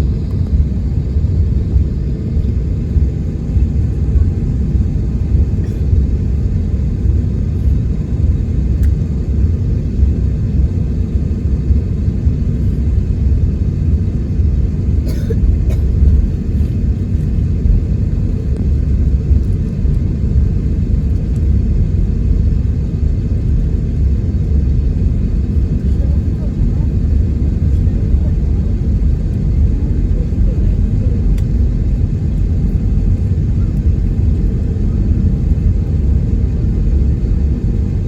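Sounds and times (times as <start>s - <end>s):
aircraft cabin engine rumble: 0.0s - 38.0s.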